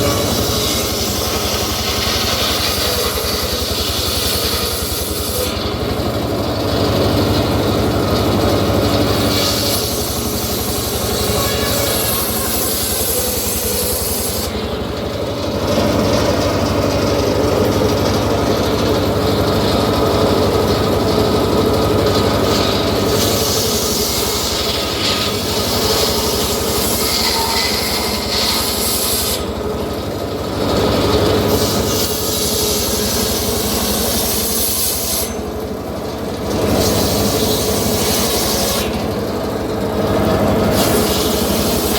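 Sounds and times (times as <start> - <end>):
sawmill blade cutting log: 0.0 - 41.9.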